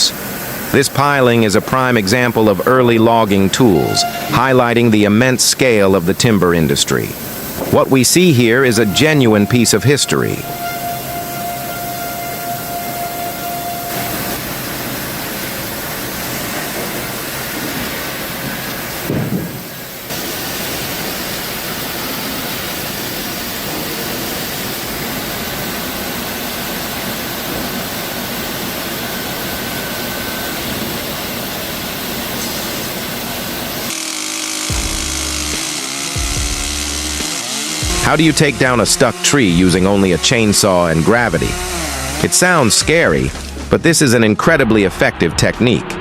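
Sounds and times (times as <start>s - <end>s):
heavy machinery running: 0.0s - 46.0s.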